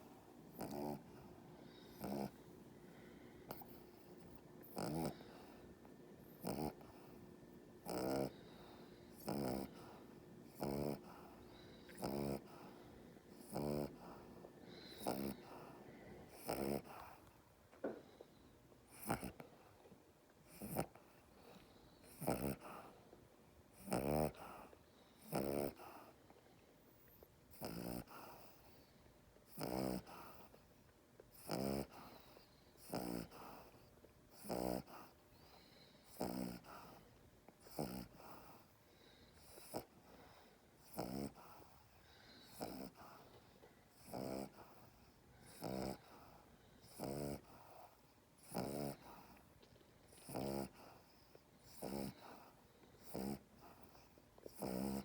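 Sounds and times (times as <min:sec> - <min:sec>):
dog snoring: 0:00.0 - 0:19.7, 0:20.4 - 0:23.1, 0:23.7 - 0:30.6, 0:31.3 - 0:55.0.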